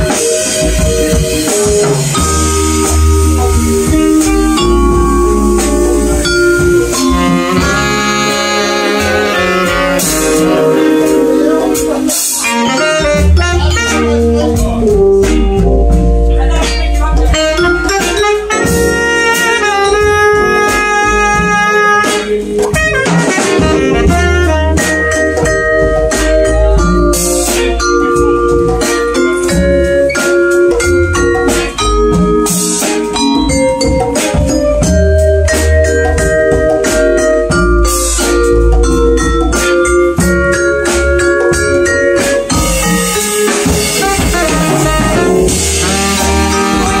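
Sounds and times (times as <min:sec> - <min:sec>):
bass: 0:00.0 - 0:47.0
drum kit with cymbals: 0:00.0 - 0:47.0
vibraphone struck with mallets: 0:00.0 - 0:47.0.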